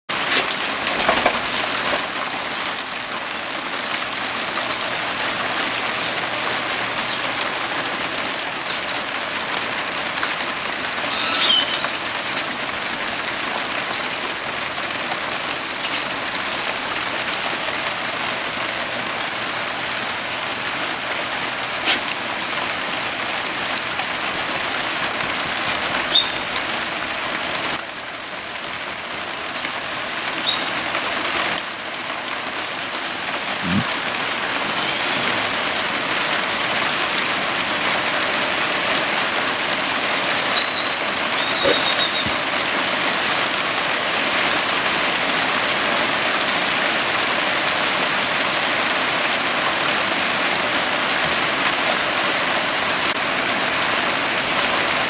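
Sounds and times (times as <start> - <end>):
sharp rain taps: 0.1 - 55.0
steady light rain: 0.1 - 55.0.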